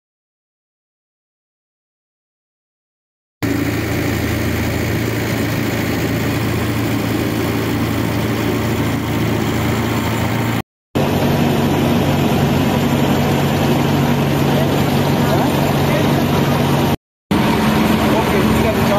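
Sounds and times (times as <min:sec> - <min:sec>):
boat engine running: 0:03.4 - 0:18.9.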